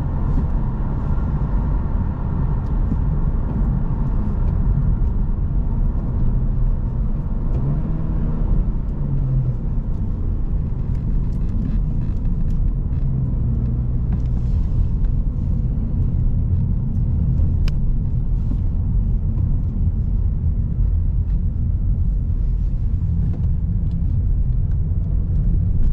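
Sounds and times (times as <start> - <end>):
car engine and road noise: 0.0 - 25.9.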